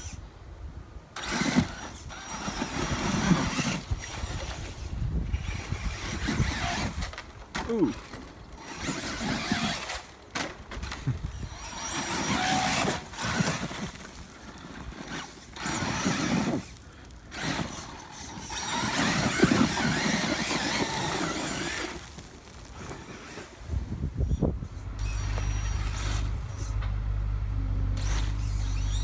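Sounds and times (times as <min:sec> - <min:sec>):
tires churning loose dirt: 0:01.1 - 0:29.0
electric motor whining: 0:01.2 - 0:10.2, 0:10.8 - 0:23.6, 0:24.2 - 0:29.0.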